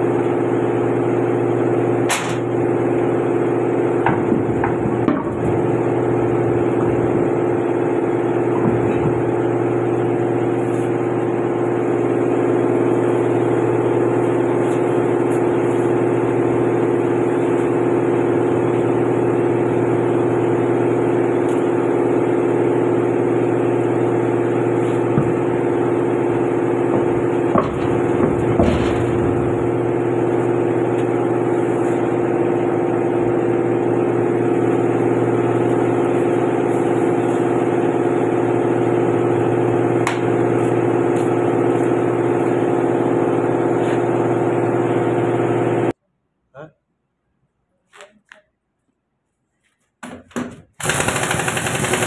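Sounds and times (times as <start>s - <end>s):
steady engine hum: 0.0s - 46.0s.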